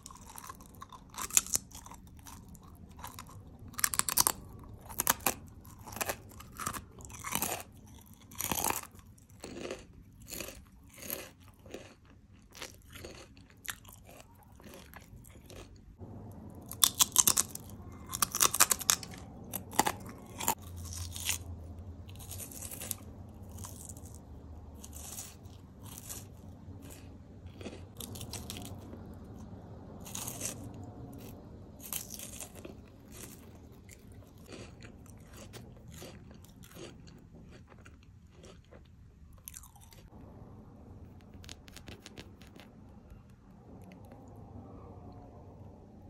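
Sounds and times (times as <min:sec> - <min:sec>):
crunching and chewing snacks: 0:00.0 - 0:40.3, 0:41.1 - 0:44.3.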